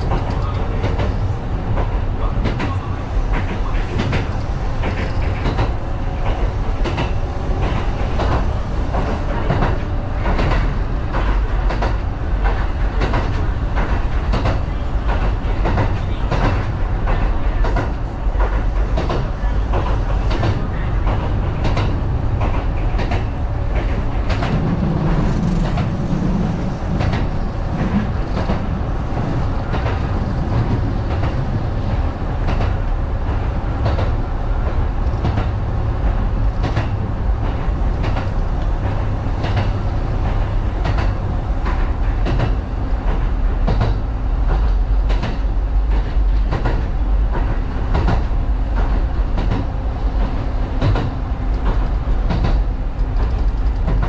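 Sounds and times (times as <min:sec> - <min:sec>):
electric train rumble: 0:00.0 - 0:54.0
wheels clicking over rail joints: 0:00.0 - 0:54.0.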